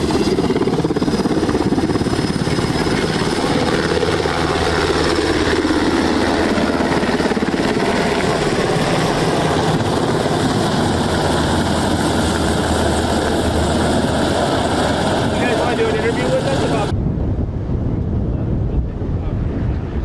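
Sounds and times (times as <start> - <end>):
helicopter rotor beat: 0.0 - 17.0.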